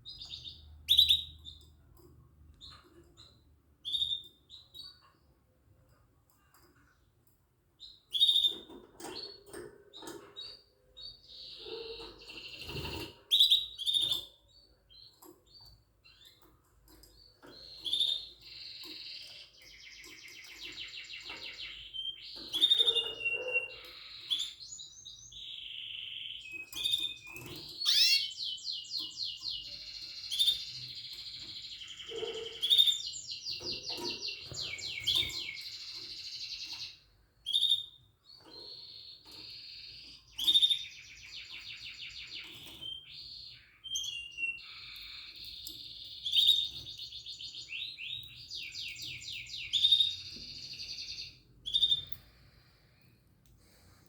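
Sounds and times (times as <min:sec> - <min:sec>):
canary singing trills and chirps: 0:00.0 - 0:53.0.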